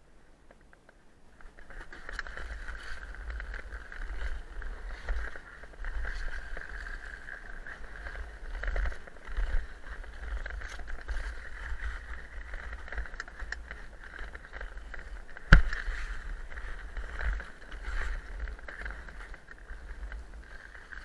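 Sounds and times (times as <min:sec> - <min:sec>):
skate blades scraping ice: 0:01.6 - 0:21.0.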